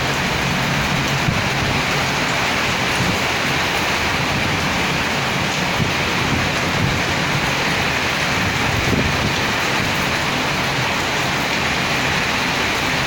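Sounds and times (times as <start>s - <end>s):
heavy rain pouring: 0.0s - 13.0s
low rumble of wind: 0.0s - 13.0s.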